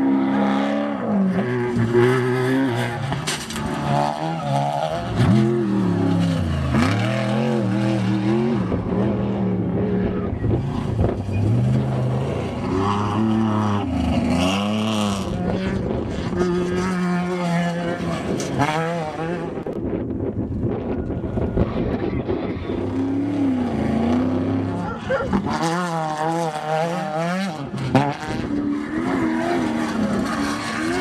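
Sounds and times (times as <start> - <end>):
race trucks engines revving: 0.0 - 31.0.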